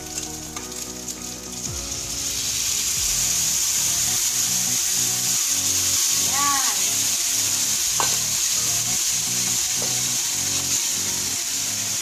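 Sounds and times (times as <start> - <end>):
meat sizzling in a pan: 0.0 - 12.0
sauce poured into pan: 0.0 - 12.0.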